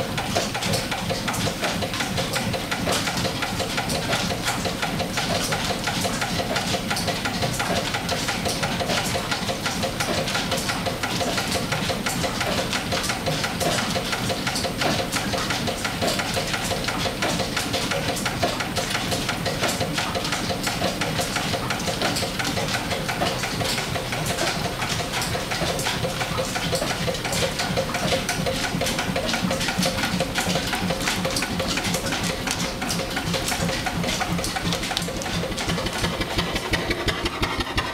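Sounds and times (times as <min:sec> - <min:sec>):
steam engine mechanical beat: 0:00.0 - 0:37.9.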